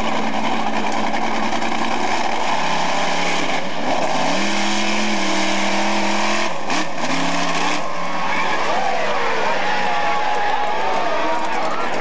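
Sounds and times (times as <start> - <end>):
truck engine revving hard: 0.0 - 10.4.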